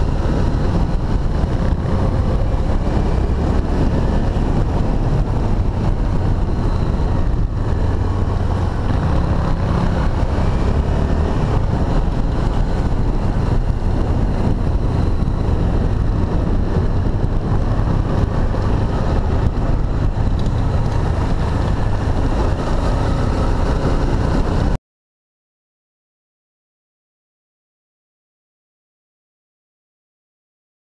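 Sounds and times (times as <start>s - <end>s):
motorcycle engine running: 0.0s - 24.8s
wind buffeting microphone: 0.0s - 24.8s.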